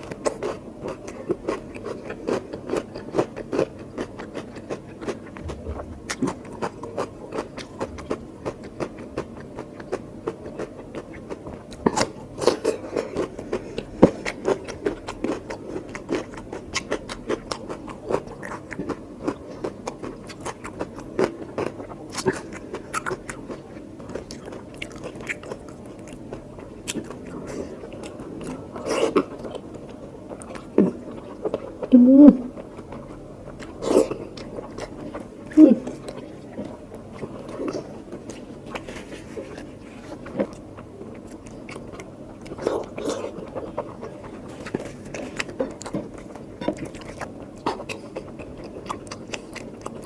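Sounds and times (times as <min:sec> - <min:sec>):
wet chewing and lip-smacking: 0:00.0 - 0:50.0.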